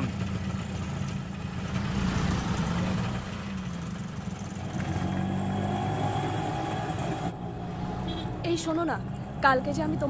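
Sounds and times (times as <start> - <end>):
auto-rickshaw engine running: 0.0 - 10.0.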